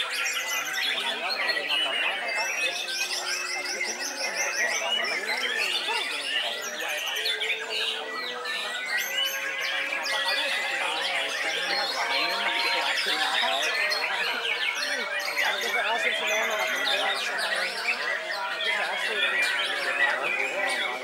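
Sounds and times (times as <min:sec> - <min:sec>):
other birds calling: 0:00.0 - 0:21.0.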